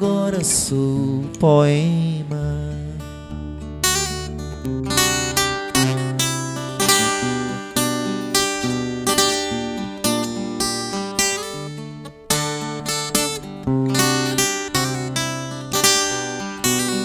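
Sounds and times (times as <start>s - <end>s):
acoustic guitar strumming: 0.0s - 17.0s
bass line: 0.7s - 17.0s.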